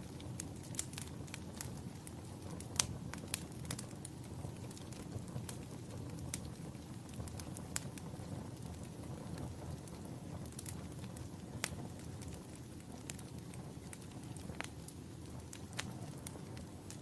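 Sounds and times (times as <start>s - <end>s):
low rush of flame: 0.0s - 17.0s
wood fire crackling: 0.0s - 17.0s.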